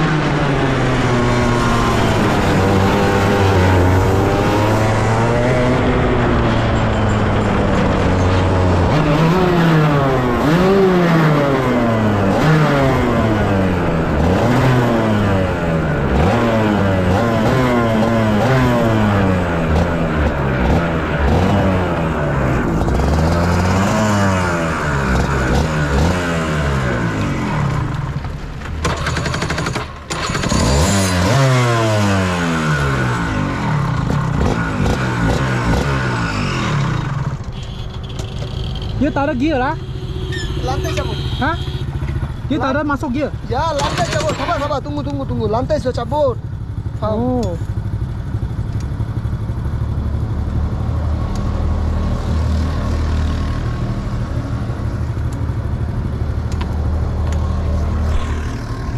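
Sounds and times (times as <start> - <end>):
go-kart engine revving: 0.0 - 58.9.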